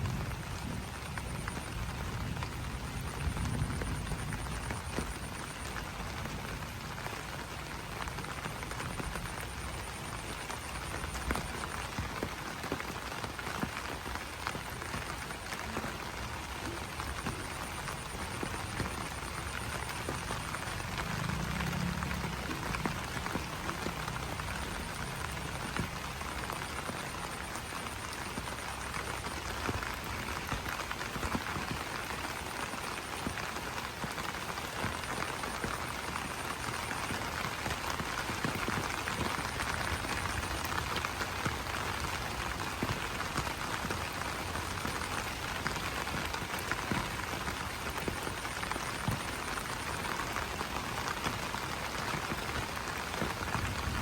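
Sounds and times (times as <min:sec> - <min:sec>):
rain pattering on leaves: 0:00.0 - 0:54.0.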